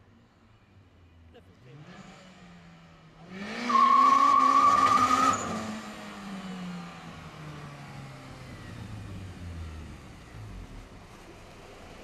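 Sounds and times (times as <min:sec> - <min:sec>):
car engine under full throttle: 0:01.4 - 0:12.0.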